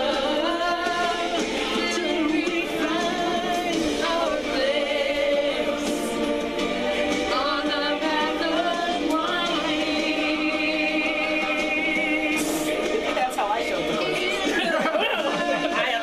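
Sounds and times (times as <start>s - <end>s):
several voices singing: 0.0s - 16.0s.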